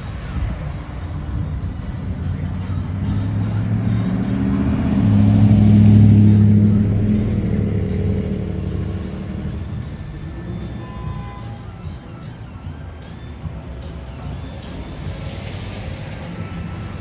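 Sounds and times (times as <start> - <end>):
pickup truck driving past: 0.0 - 17.0.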